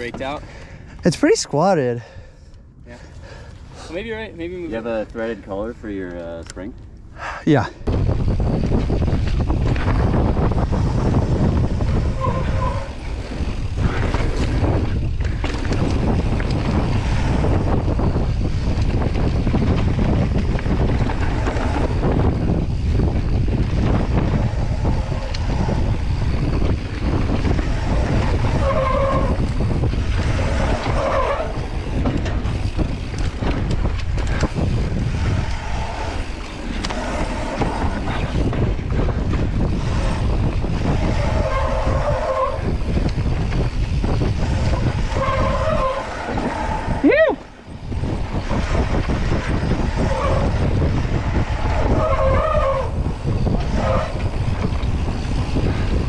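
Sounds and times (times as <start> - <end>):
bike chain and suspension rattling: 0.0 - 1.0, 7.6 - 56.0
wind over microphone: 0.0 - 56.0
tyres rumbling on dirt: 7.9 - 56.0.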